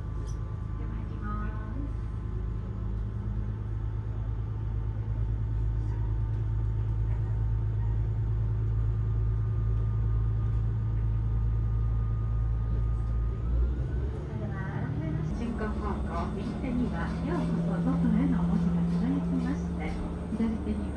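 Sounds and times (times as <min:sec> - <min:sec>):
diesel railcar rumbling: 0:00.0 - 0:20.9.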